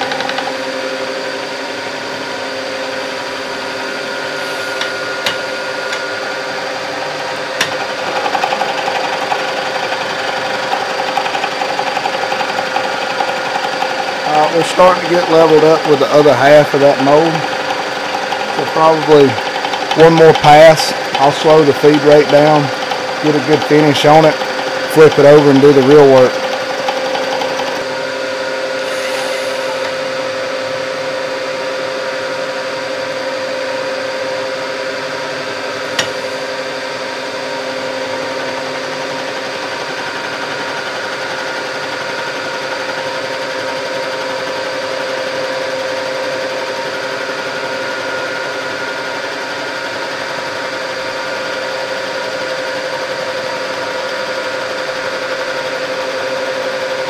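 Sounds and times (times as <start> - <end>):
milling machine motor hum: 0.0 - 57.0.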